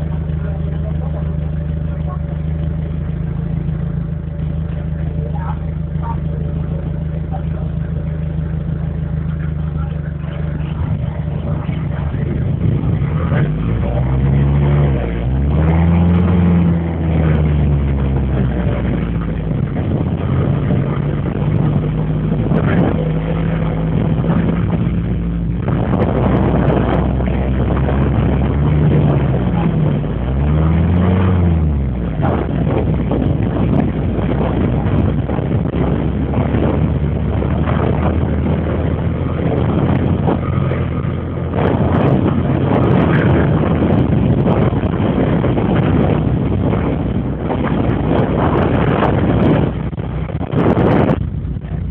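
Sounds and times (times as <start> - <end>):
motorboat engine humming: 0.0 - 51.9.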